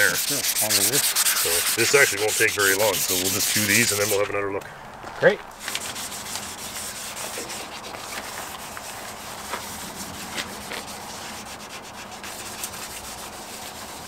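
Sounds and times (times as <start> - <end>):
sandpaper rubbing on rusty metal: 0.0 - 4.4, 5.6 - 14.0.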